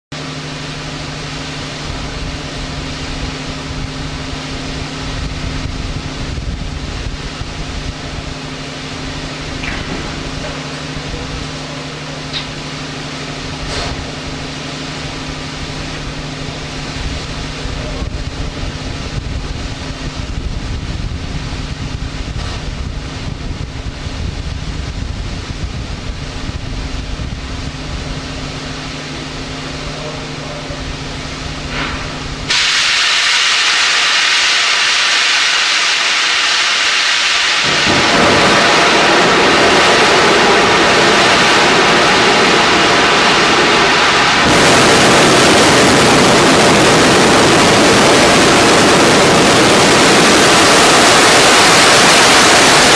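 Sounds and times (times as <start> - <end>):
low rumbling with faint hum: 0.1 - 52.9
rocket engines roaring: 0.2 - 52.9.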